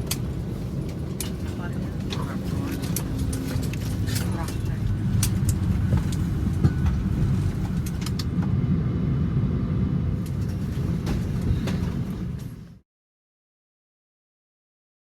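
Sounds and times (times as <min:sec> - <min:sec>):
vehicle rumbling in motion: 0:00.0 - 0:12.8.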